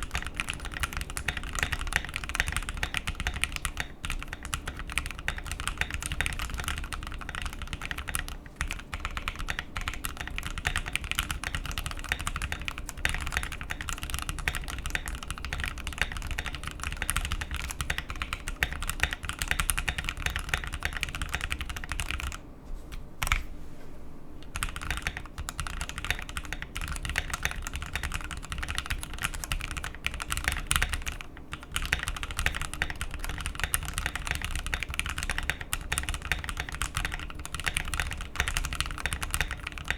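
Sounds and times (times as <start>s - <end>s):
fast mechanical keyboard typing: 0.0s - 22.4s, 24.5s - 39.9s.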